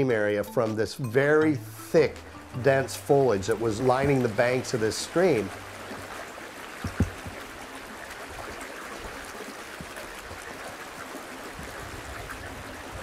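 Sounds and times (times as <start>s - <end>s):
stream running over gravel: 2.0s - 13.0s.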